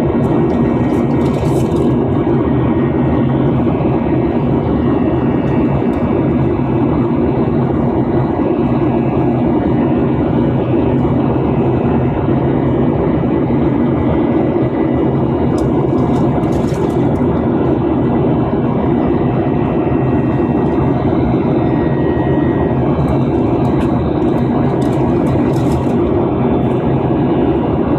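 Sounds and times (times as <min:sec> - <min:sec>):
jet engine and airflow noise: 0:00.0 - 0:27.9.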